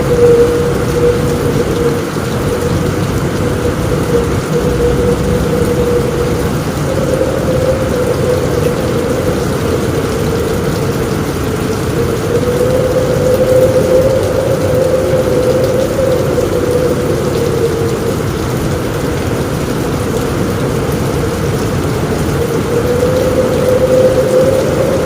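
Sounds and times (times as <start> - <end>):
heavy rain on a roof: 0.0 - 25.0
wind whistling: 0.0 - 25.0.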